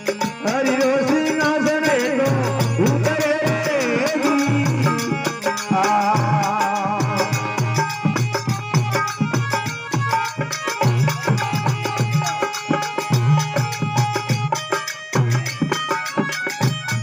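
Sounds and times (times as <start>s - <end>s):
dholak drum rhythm: 0.0s - 17.0s
harmonium melody: 0.0s - 17.0s
ticking percussion: 0.0s - 17.0s.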